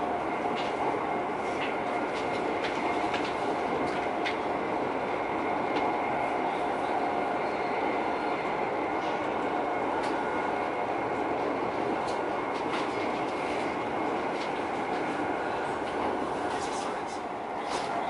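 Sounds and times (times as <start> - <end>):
high-speed train cabin rush: 0.0 - 18.0.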